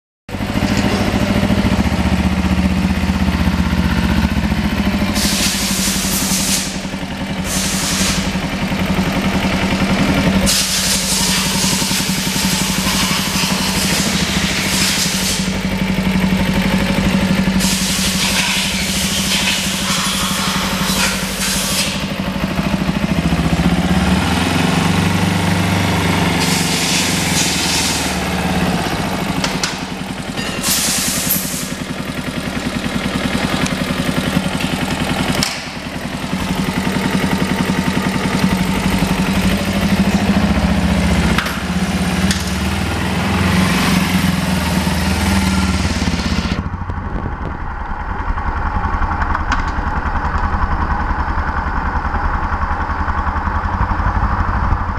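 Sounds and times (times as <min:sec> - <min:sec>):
motorcycle engine running: 0:00.3 - 0:54.9.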